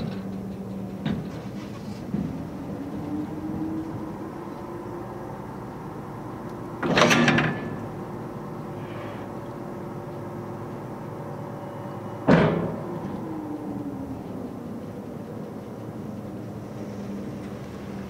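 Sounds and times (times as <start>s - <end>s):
ferry machinery hum: 0.0s - 18.0s.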